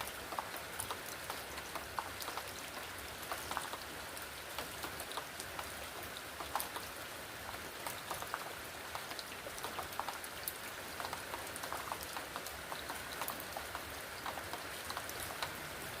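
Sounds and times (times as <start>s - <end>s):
raindrops clicking on a surface: 0.0s - 16.0s
steady rain falling: 0.0s - 16.0s.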